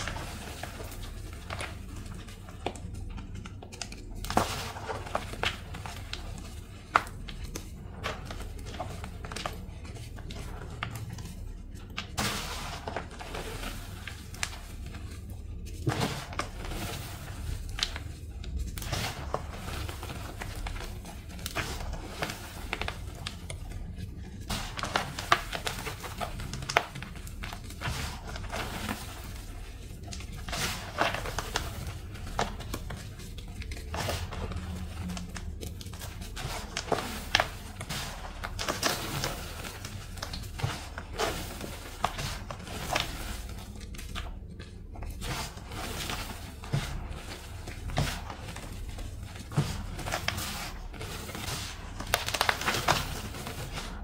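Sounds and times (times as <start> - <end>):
chalk blocks crunching: 0.0 - 54.0.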